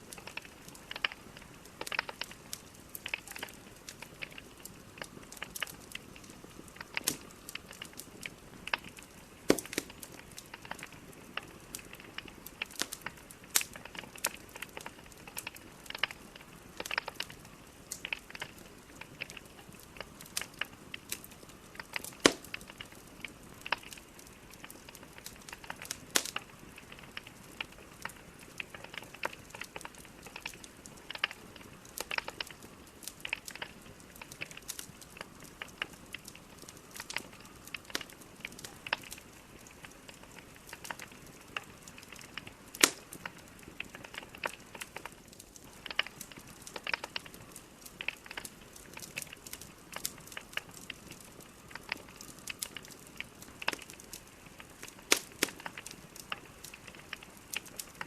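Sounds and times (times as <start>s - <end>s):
logs crackling in a fireplace: 0.0s - 58.0s.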